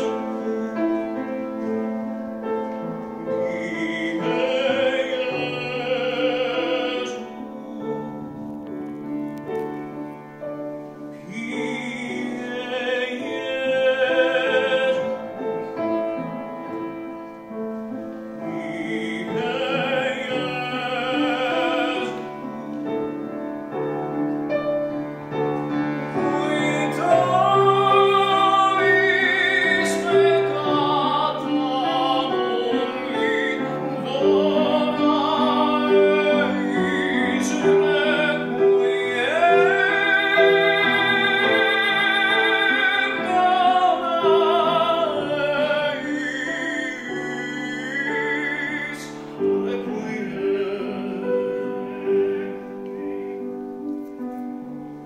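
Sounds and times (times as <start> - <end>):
man singing opera: 0.0 - 54.1
piano accompaniment: 0.0 - 55.0.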